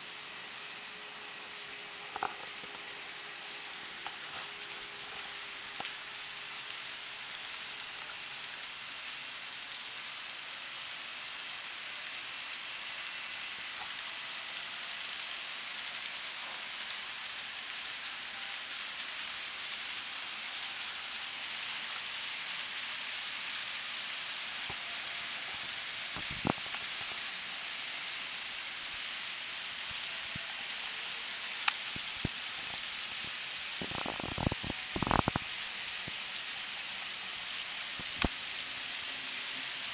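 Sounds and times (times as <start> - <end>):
model trains running on track: 0.0 - 33.8, 34.8 - 39.9.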